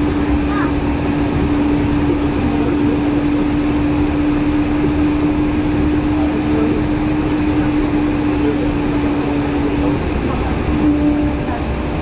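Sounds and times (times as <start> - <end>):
low rumble from tyres: 0.0 - 12.0
steady train hum: 0.0 - 12.0.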